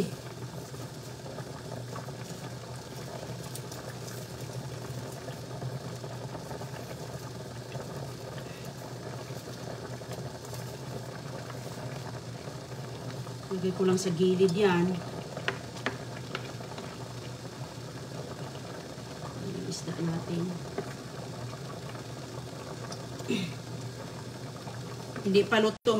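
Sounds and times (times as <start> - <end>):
soup boiling: 0.0 - 25.9
steady low hum: 0.0 - 25.9.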